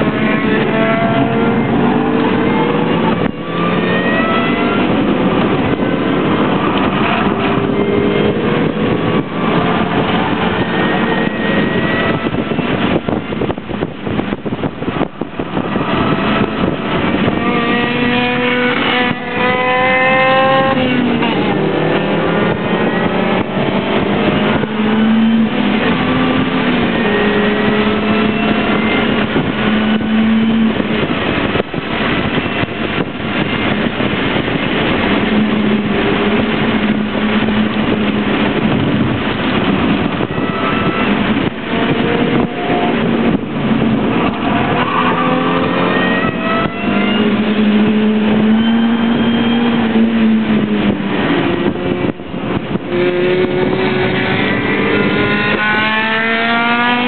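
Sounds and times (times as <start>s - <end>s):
car engine revving: 0.0s - 57.0s
tyre and wind noise: 0.0s - 57.0s.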